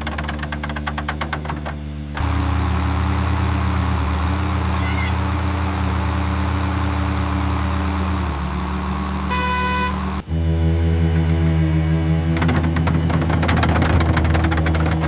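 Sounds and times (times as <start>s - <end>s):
cartoon engine humming: 0.0s - 15.0s.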